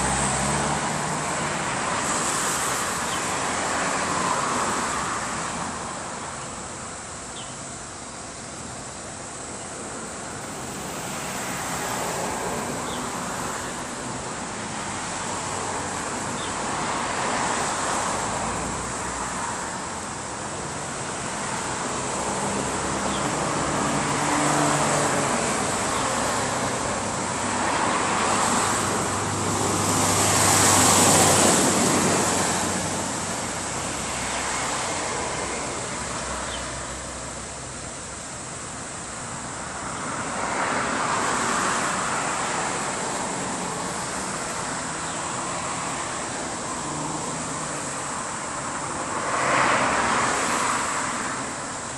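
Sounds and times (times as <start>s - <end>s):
road traffic passing: 0.0s - 51.9s.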